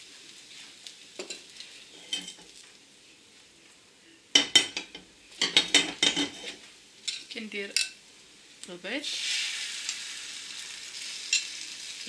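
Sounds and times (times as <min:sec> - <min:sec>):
bread sizzling in a frying pan: 0:00.0 - 0:12.0.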